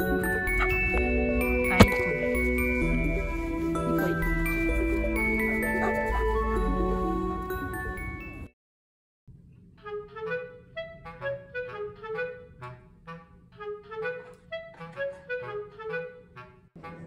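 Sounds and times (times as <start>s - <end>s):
woodwind tune with accompaniment: 0.0s - 8.4s, 9.8s - 17.0s.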